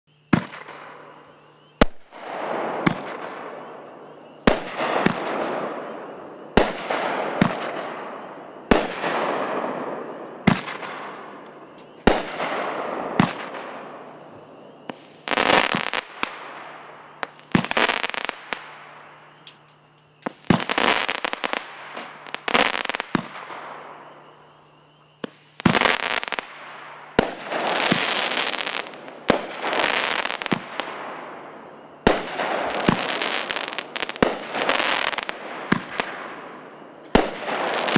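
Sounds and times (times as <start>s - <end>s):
fireworks bangs: 0.2s - 37.9s
fireworks crackling fizz: 0.2s - 37.9s.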